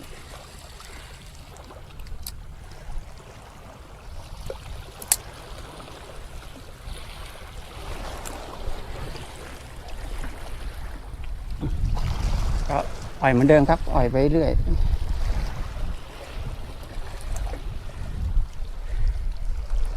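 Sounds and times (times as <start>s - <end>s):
waves washing against rocks: 0.0s - 19.9s.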